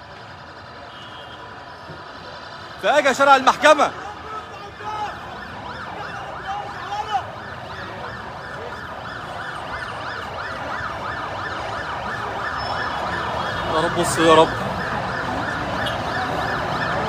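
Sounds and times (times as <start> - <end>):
siren yelp: 2.5 - 17.0.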